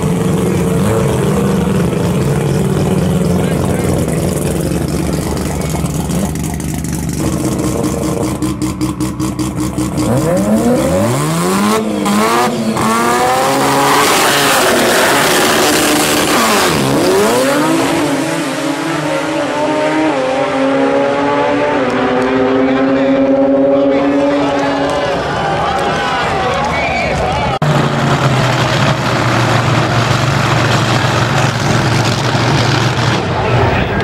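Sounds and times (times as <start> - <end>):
race car engine revving: 0.0 - 26.2, 27.6 - 34.0.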